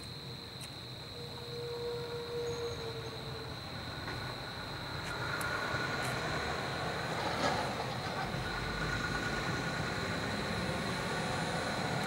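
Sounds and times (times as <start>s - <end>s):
high-pitched whine: 0.0s - 12.0s
train rumbling: 1.2s - 12.0s.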